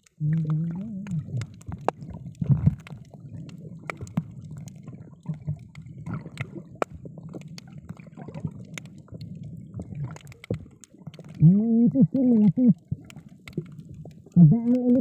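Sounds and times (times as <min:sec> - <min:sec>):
muffled underwater rumble: 0:00.0 - 0:15.0
sharp underwater clicks: 0:00.0 - 0:15.0.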